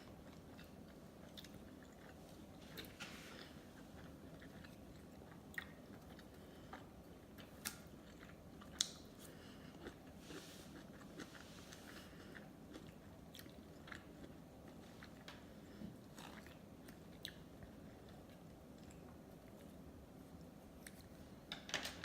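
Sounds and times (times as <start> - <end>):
person chewing food: 0.0 - 21.2.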